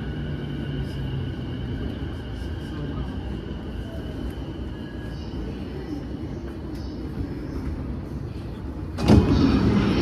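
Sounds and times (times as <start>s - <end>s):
train car rumbling on track: 0.0s - 10.0s.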